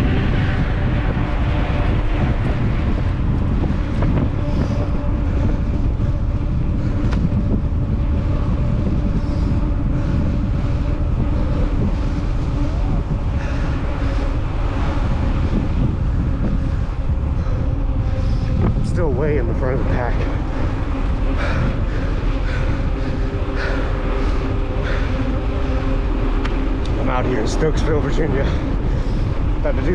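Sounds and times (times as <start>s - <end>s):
steady low hum: 0.0s - 29.9s
wind rushing over microphone: 0.0s - 29.9s.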